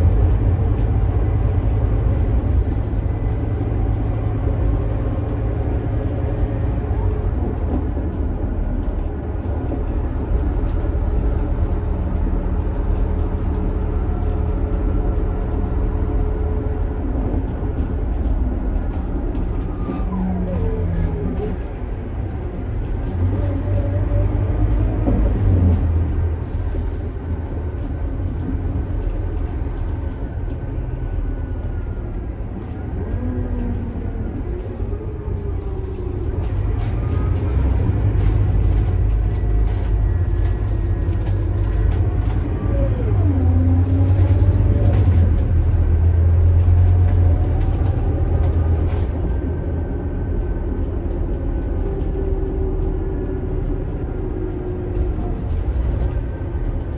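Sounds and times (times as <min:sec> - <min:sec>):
bus engine rumble: 0:00.0 - 0:56.9.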